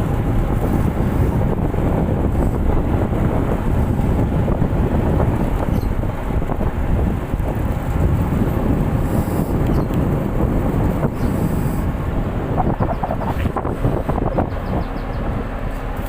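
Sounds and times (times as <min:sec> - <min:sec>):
boat engines low rumble: 0:00.0 - 0:16.0
wind on microphone: 0:00.0 - 0:16.0.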